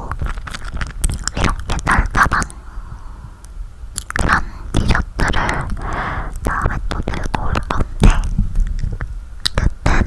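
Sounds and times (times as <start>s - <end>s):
chewing marshmallow: 0.0s - 2.6s, 3.9s - 10.0s.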